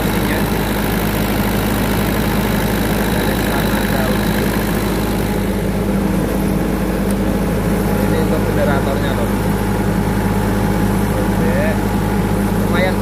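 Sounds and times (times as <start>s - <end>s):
diesel generator humming: 0.0s - 13.0s.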